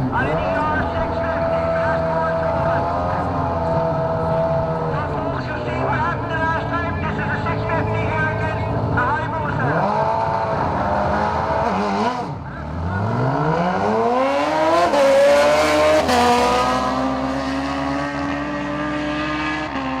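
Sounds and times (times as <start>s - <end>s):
motorcycle accelerating through gears: 0.0s - 20.0s
motorcycle engines revving: 0.0s - 20.0s.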